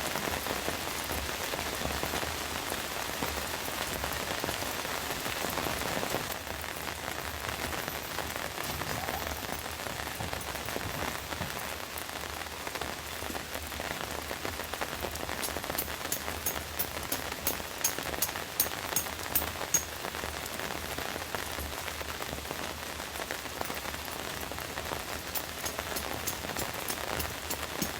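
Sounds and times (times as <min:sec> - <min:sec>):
rain pattering on a tent: 0:00.0 - 0:27.9.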